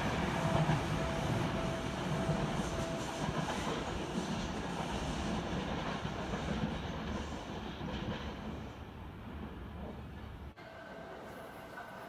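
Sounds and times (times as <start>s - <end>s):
train wheels rumbling on rail: 0.0s - 10.6s.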